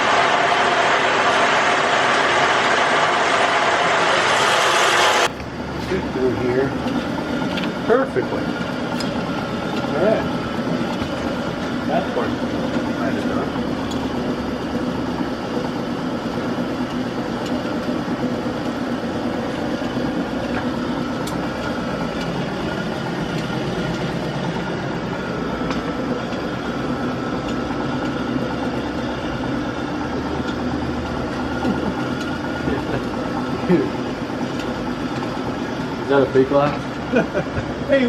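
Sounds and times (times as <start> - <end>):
machinery drone: 0.0 - 38.0
thin steady whine: 0.0 - 38.0.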